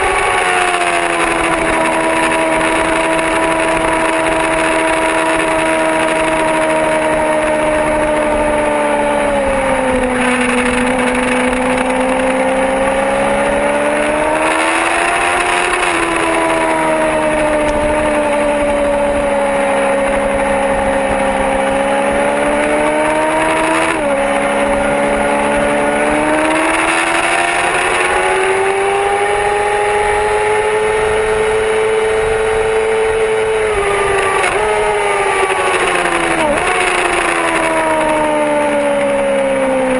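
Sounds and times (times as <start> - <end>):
steady rush of noise: 0.0 - 39.1
sport bike engine at high revs: 0.0 - 39.9.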